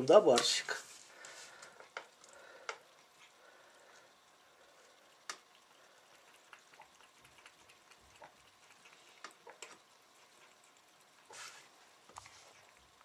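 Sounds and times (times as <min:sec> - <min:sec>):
cat lapping milk: 0:01.8 - 0:13.0.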